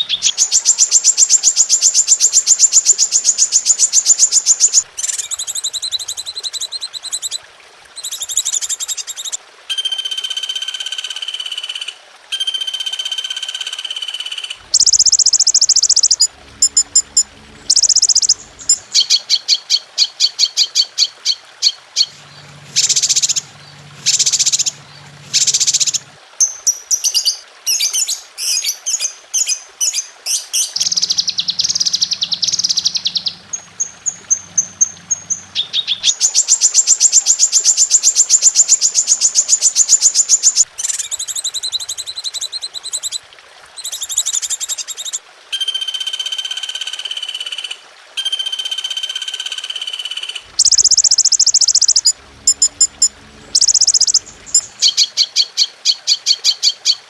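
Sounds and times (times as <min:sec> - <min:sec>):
songbird chirps and trills: 0:00.0 - 0:11.8, 0:12.4 - 0:47.6, 0:48.2 - 0:57.0.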